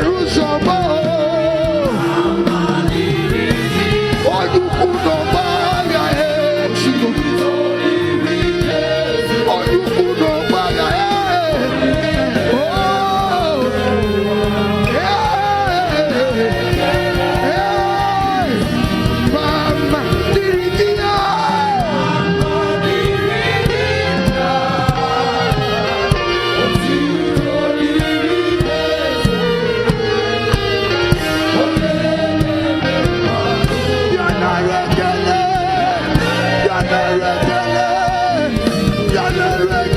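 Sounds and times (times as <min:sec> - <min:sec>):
band accompaniment: 0:00.0 - 0:39.9
congregation singing along: 0:00.0 - 0:39.9
voices singing a melody: 0:00.0 - 0:39.9.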